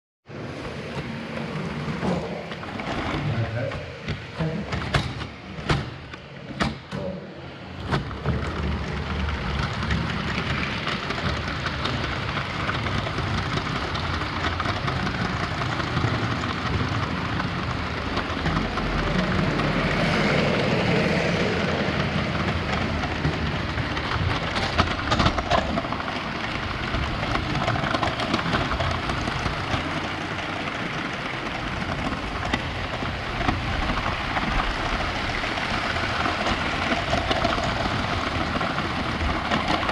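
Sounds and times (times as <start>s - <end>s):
toy train rattling rumble: 0.3s - 39.9s.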